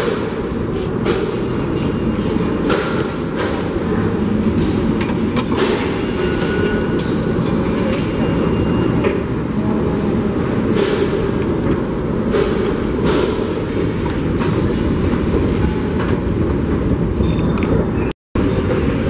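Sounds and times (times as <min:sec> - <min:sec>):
subway train rumbling on rails: 0:00.0 - 0:19.0.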